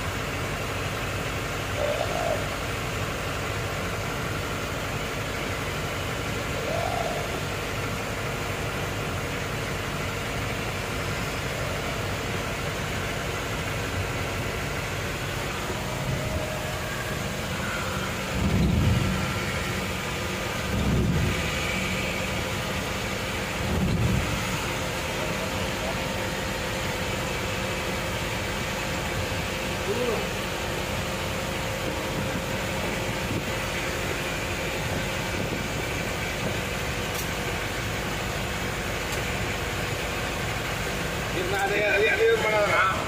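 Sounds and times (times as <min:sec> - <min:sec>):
road and engine noise: 0:00.0 - 0:43.0.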